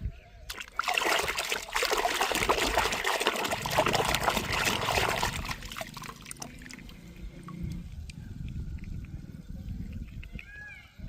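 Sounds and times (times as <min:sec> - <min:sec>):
water trickling and splashing: 0:00.5 - 0:10.6.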